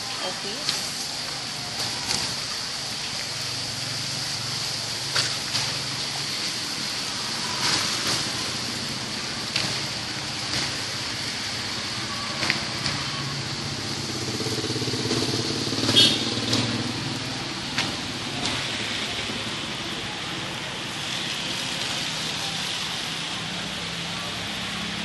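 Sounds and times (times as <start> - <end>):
heavy rain on pavement and roof: 0.0 - 25.0
vehicle passing on wet street: 0.0 - 25.0
sharp drips: 0.1 - 25.0.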